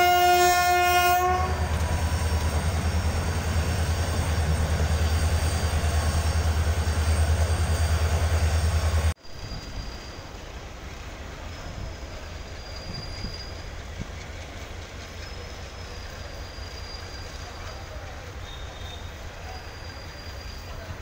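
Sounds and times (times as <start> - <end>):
distant train wagons rumbling: 0.0 - 21.0
faint high wheel squeals: 2.0 - 21.0.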